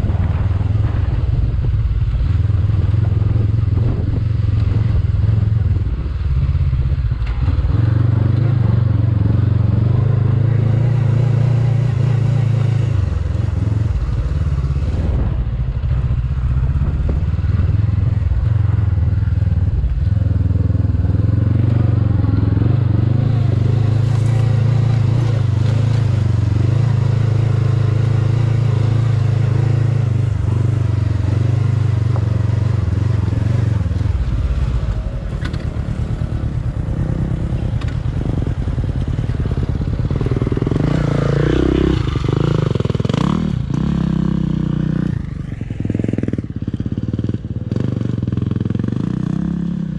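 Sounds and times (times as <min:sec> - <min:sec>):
motorcycle engine climbing hill: 0:00.0 - 0:49.9.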